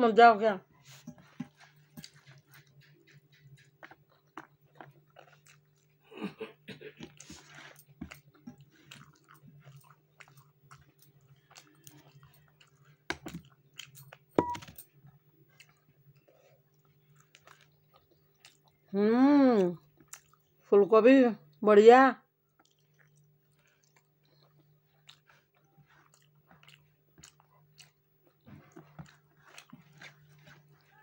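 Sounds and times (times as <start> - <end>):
chewing with wet mouth clicks: 1.2 - 6.0, 6.9 - 18.9, 19.6 - 20.7, 22.4 - 31.0.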